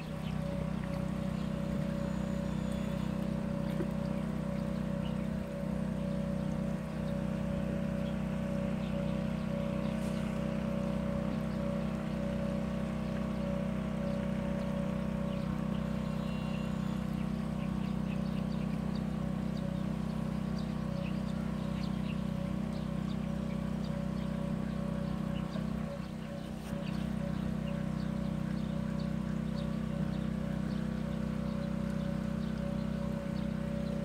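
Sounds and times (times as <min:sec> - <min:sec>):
low mechanical motor hum: 0:00.0 - 0:34.0.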